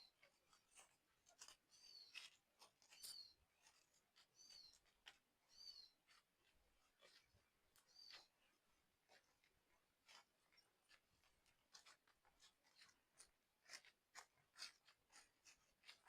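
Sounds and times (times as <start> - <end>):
faint crackles and rustles: 0.0 - 16.0.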